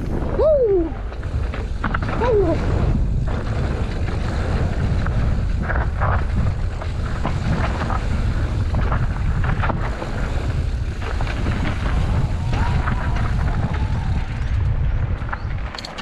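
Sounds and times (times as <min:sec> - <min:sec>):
wind buffeting microphone: 0:00.0 - 0:16.0
bike rattling and knocking: 0:01.0 - 0:16.0.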